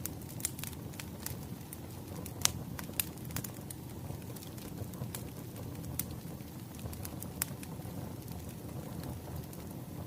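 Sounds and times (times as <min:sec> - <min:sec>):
sharp pops from fire: 0:00.0 - 0:09.8
wood fire crackling: 0:00.0 - 0:10.0.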